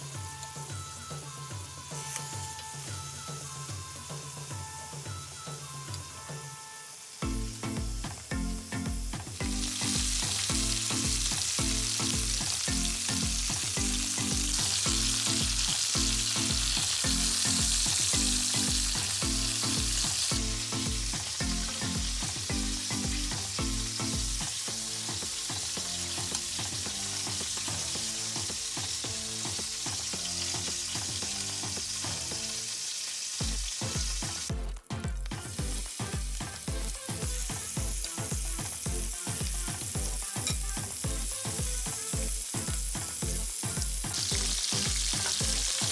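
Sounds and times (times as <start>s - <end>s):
background music with a beat: 0.0s - 45.9s
food sizzling in a pan: 0.0s - 45.9s.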